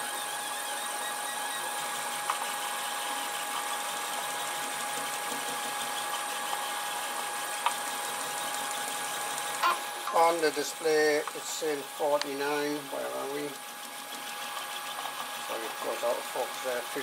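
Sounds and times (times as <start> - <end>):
three d printer whirring: 0.0 - 17.0.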